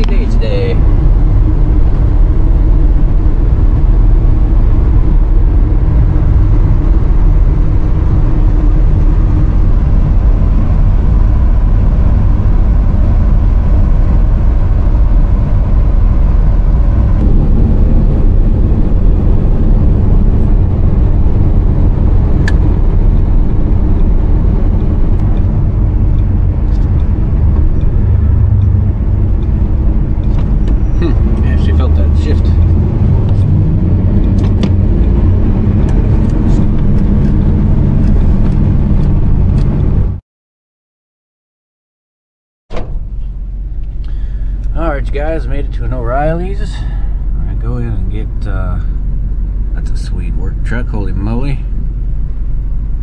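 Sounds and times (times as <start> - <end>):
engine drone: 0.0 - 40.2, 42.7 - 53.0
road noise: 0.0 - 40.2, 42.7 - 53.0.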